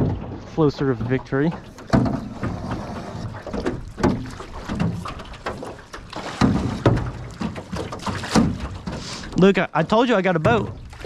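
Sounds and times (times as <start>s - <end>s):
paddles knocking against hull: 0.0s - 11.0s.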